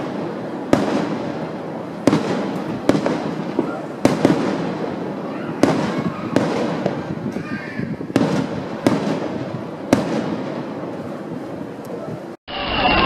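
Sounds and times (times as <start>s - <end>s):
firework bangs echoing: 0.0s - 12.3s.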